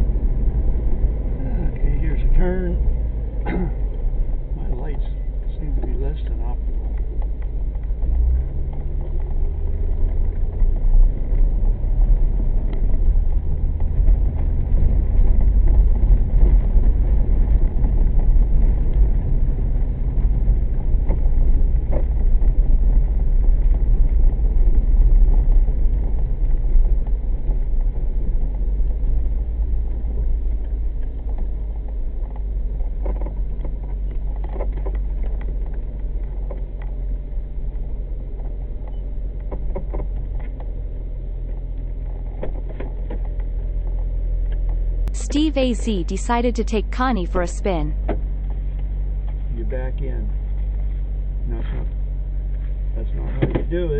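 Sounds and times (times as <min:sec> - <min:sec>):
car engine drone from inside: 0:00.0 - 0:53.9.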